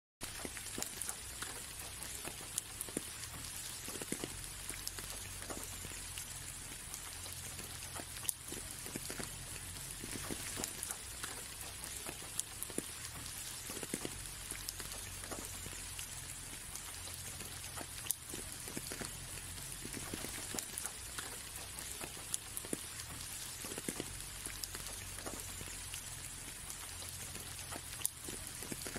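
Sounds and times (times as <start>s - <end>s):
low steady hum: 0.2s - 28.9s
soft rain hiss: 0.2s - 28.9s.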